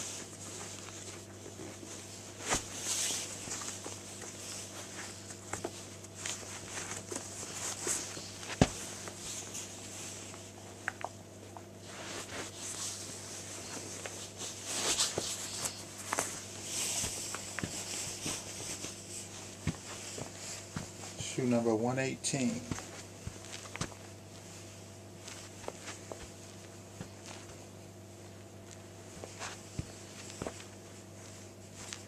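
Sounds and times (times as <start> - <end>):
rustling and knocks of sneakers: 0.0 - 21.5, 22.5 - 32.0
shoes shuffling on carpet: 0.0 - 21.7, 22.3 - 32.0.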